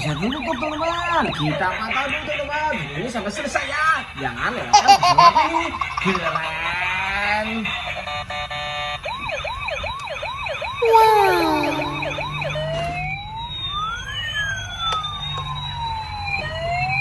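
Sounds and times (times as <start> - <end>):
toy electronic siren: 0.0 - 17.0.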